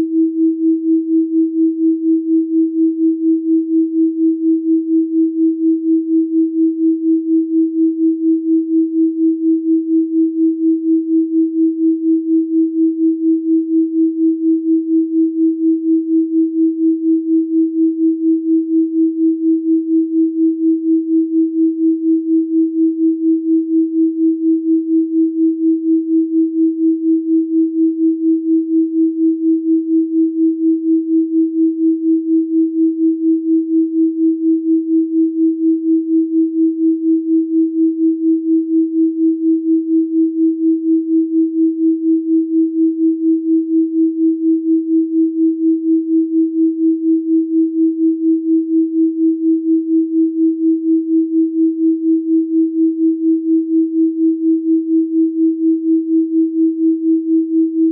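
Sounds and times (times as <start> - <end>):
pulsing sine tone: 0.0 - 57.9.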